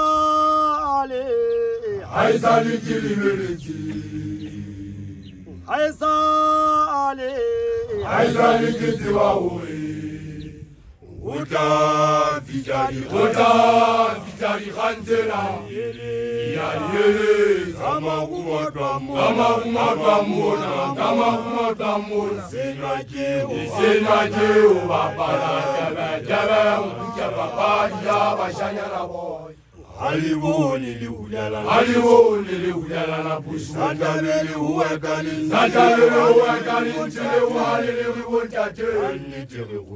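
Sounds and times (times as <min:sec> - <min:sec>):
male voices singing unaccompanied chant: 0:00.0 - 0:39.9.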